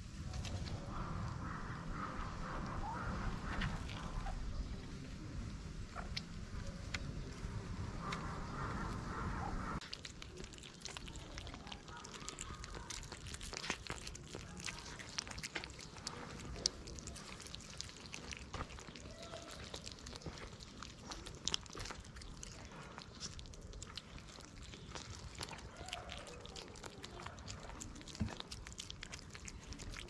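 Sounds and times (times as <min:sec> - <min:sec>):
cats chewing and licking wet food: 0:00.0 - 0:30.0.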